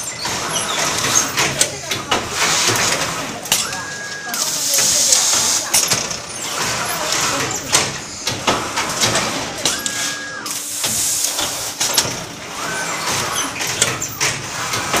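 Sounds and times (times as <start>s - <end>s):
machine motor whine: 0.0s - 15.0s
mechanism clicks and clacks: 0.0s - 15.0s.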